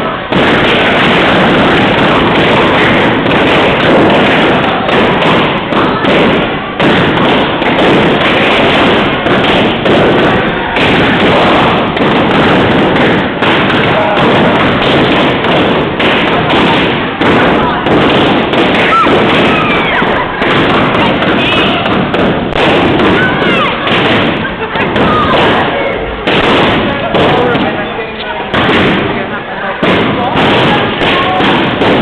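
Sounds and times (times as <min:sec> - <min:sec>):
balloons popping: 0:00.0 - 0:32.0
people shouting and cheering: 0:00.0 - 0:32.0.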